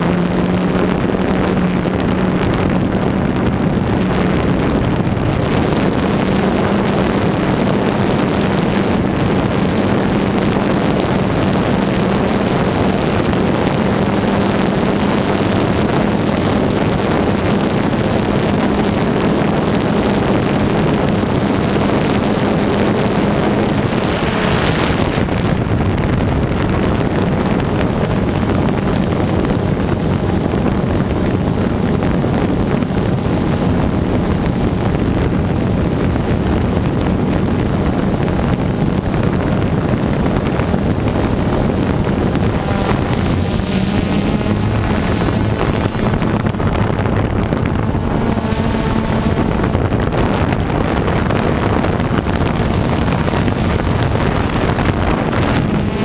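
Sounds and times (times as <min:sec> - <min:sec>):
drone propellers humming: 0:00.0 - 0:56.0
wind noise: 0:00.0 - 0:56.0.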